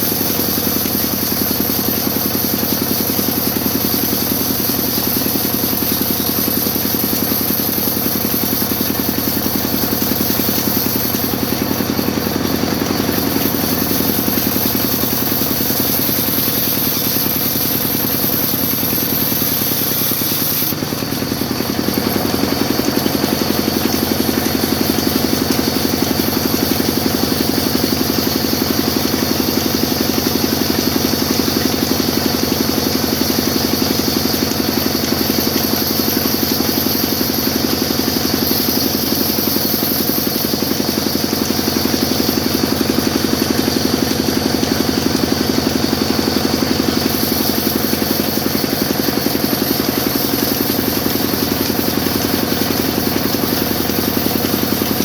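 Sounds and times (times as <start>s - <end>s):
high machine whine: 0.0s - 55.0s
sawmill machine drone: 0.0s - 55.0s.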